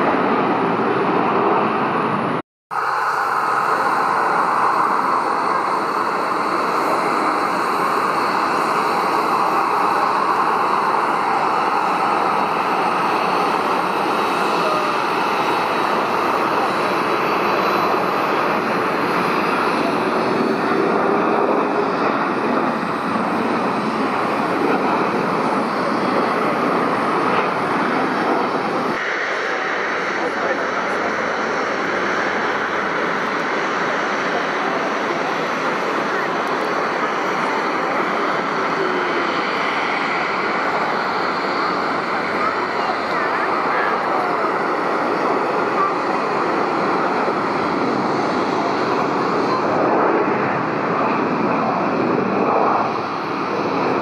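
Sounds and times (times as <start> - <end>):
faint high whine: 0.0 - 54.0
jet engines rushing: 0.0 - 54.0.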